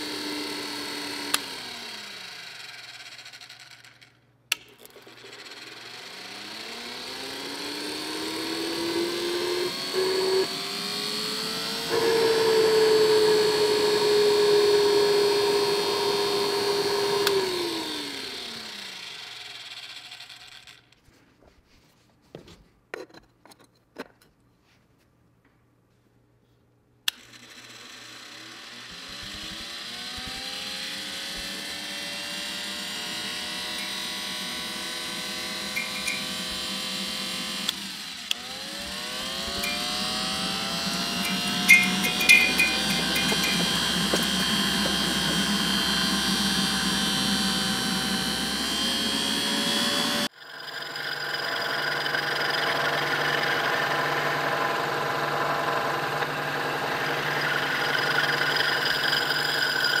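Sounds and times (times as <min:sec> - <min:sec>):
electric motor whine: 0:00.0 - 0:03.8, 0:05.2 - 0:20.4, 0:27.1 - 1:00.0.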